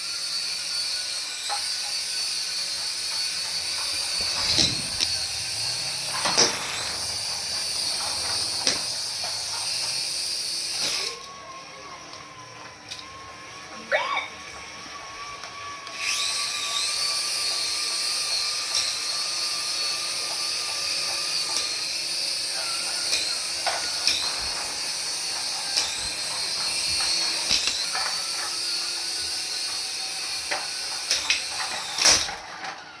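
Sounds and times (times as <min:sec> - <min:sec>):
small electric motor whining: 0:00.0 - 0:33.0.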